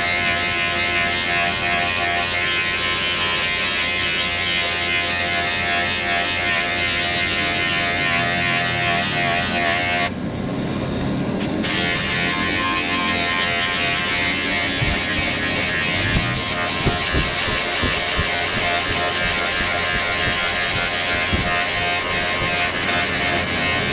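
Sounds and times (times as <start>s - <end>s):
small electric motor buzzing: 0.0s - 10.1s, 11.6s - 23.9s.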